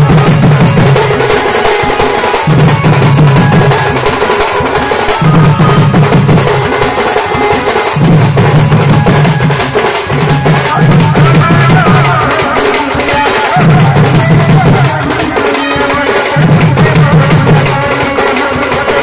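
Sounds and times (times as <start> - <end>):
barrel drums beaten fast: 0.0 - 19.0.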